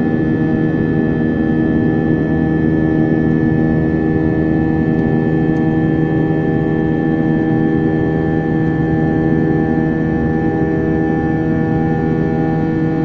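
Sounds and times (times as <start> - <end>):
jet engine droning in cabin: 0.0 - 13.0.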